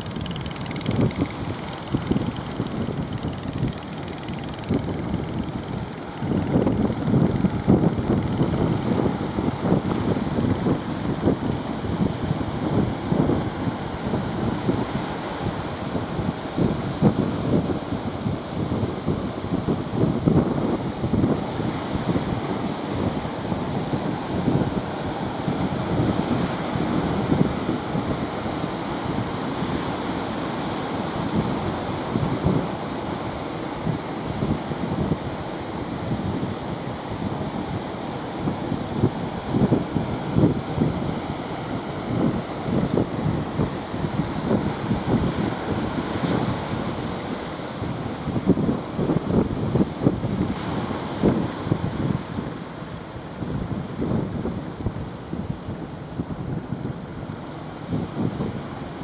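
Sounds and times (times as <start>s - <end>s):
sea surf washing: 0.0s - 59.0s
wind buffeting microphone: 0.0s - 59.0s.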